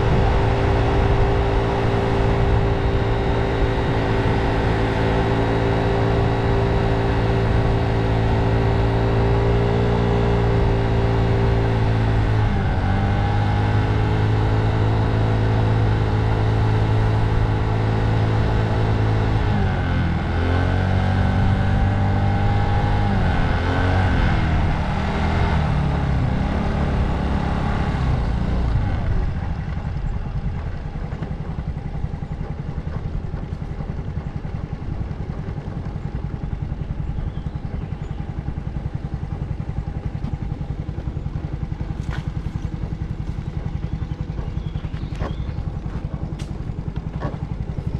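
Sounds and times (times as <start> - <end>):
motor scooter engine running: 0.0 - 47.9.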